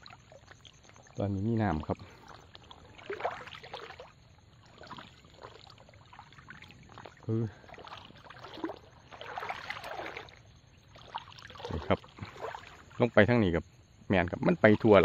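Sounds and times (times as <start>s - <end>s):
footsteps wading through water: 0.0s - 13.2s.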